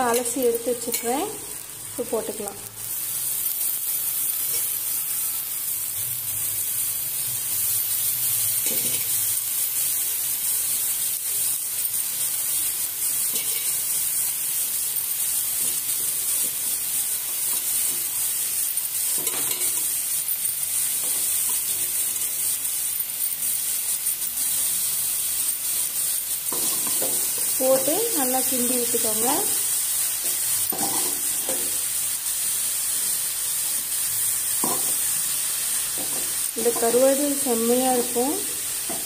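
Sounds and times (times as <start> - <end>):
fish sizzling in oil: 0.0 - 39.0.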